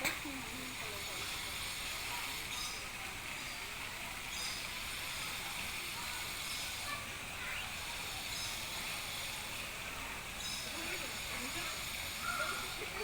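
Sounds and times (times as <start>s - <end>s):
faint distant voices: 0.0s - 13.0s
outdoor background hiss: 0.0s - 13.0s.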